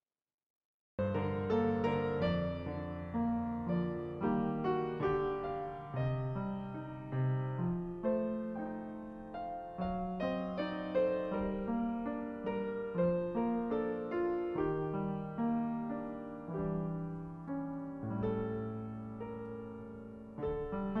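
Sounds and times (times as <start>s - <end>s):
slow gentle piano piece: 1.0s - 21.0s.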